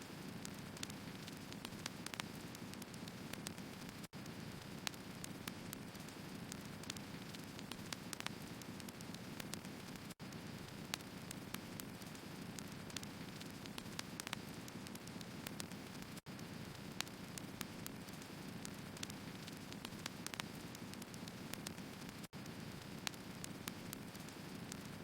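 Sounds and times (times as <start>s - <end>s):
burning logs crackling: 0.3s - 25.0s.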